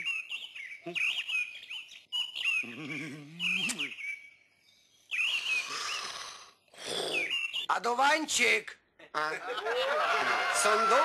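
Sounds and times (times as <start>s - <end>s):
songbirds chirping: 0.0s - 9.3s.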